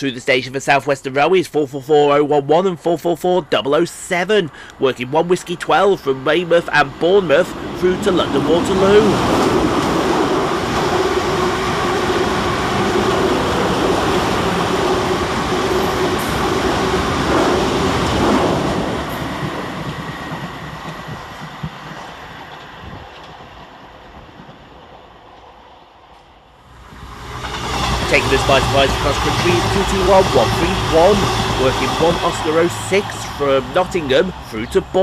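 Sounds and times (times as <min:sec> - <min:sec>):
electric train passing at speed: 0:05.0 - 0:35.0.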